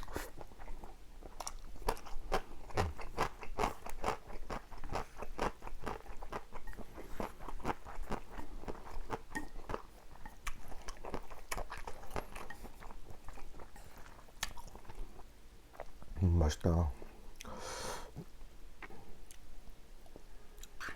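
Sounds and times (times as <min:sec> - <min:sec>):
wet chewing and mouth smacks: 0:00.0 - 0:16.1, 0:18.8 - 0:20.9.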